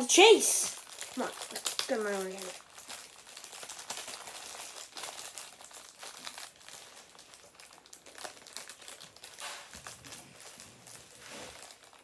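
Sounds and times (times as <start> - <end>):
plastic packaging crinkling: 0.2 - 12.0.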